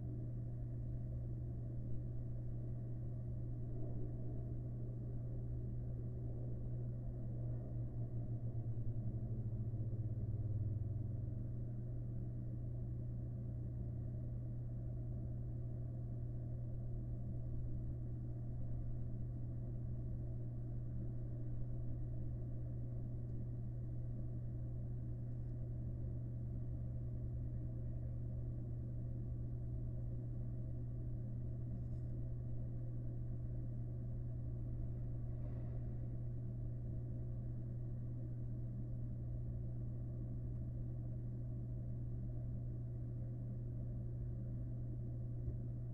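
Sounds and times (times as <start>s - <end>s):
low electrical hum with hiss: 0.0s - 45.9s.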